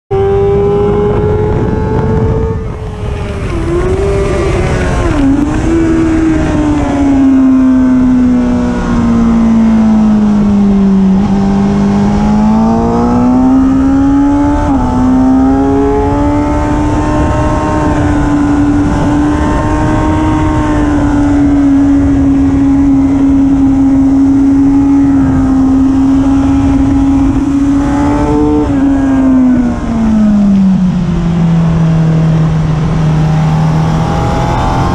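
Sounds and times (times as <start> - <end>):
motorcycle engine at speed: 0.1 - 34.9
wind rushing: 0.1 - 34.9.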